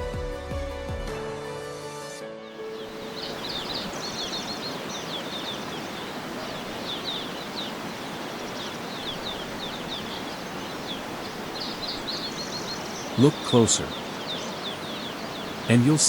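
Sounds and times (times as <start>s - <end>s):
birds chirping: 2.5s - 16.0s
waterfall rushing: 2.6s - 16.0s.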